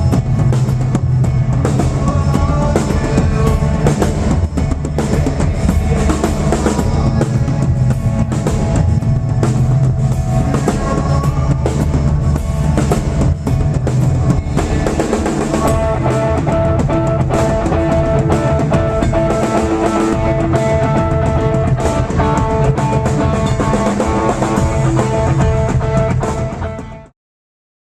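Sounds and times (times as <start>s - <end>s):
rock music with guitar and drums: 0.0s - 27.1s.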